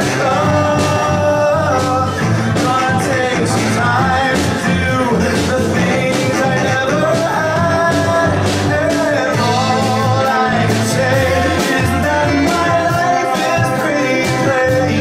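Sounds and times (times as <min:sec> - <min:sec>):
live band music: 0:00.0 - 0:15.0
man singing lead: 0:00.0 - 0:15.0.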